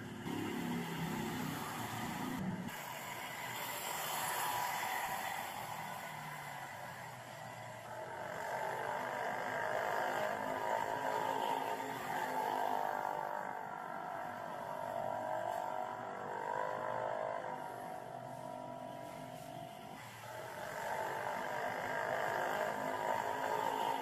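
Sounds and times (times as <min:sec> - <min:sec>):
motorbikes and cars passing: 0:00.0 - 0:24.0.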